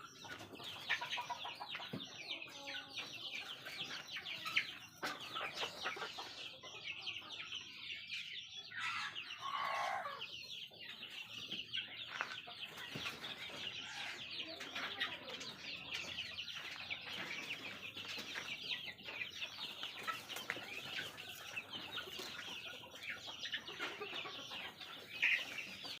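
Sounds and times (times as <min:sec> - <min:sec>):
chicks cheeping and clucking: 0:00.0 - 0:26.0.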